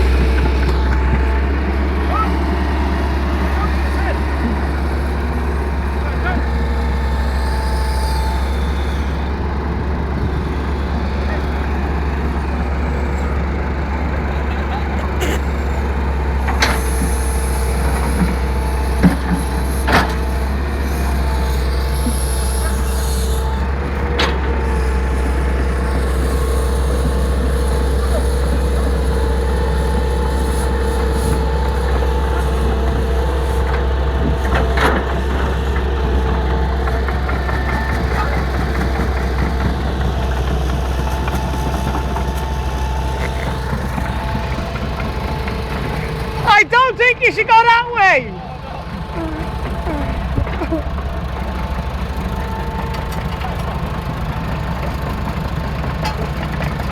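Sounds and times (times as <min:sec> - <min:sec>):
heavy machinery engine droning: 0:00.0 - 0:56.9.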